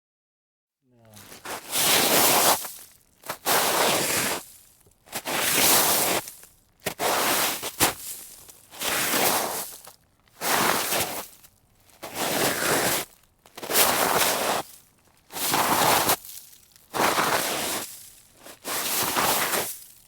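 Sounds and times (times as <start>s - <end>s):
shoes skidding on snow: 1.1s - 20.0s.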